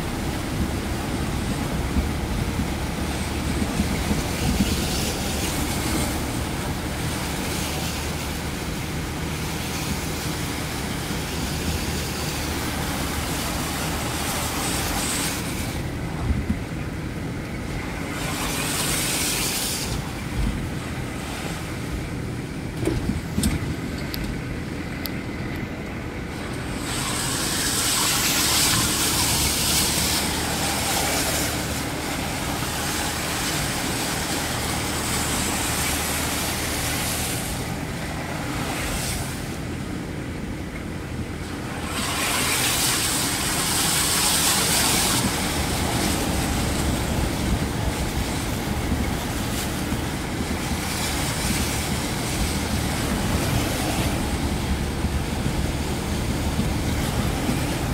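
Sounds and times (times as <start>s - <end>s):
water spray hissing: 0.0s - 16.0s, 17.8s - 20.4s, 26.4s - 39.7s, 41.6s - 57.9s
engine running: 0.0s - 57.9s.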